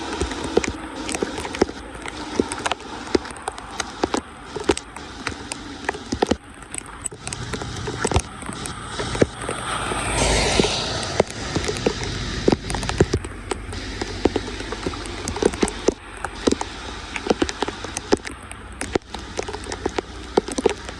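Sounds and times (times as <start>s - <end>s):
rain drops ticking: 0.0s - 20.9s
rushing noise: 0.0s - 20.9s
steady wet hiss: 0.0s - 20.9s.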